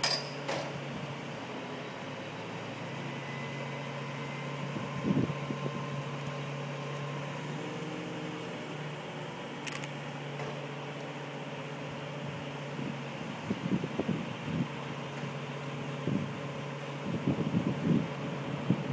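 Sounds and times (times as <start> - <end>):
crane engine running: 0.0 - 18.9.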